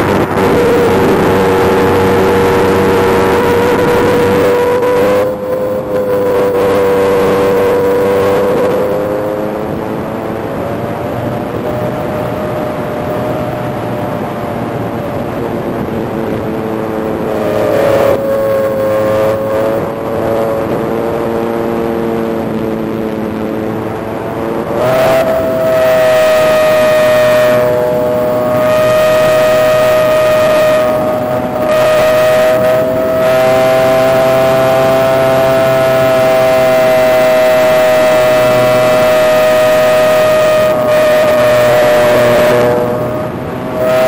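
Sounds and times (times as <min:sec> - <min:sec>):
electric motor and propeller whine: 0:00.0 - 0:44.0
wind rush: 0:00.0 - 0:44.0.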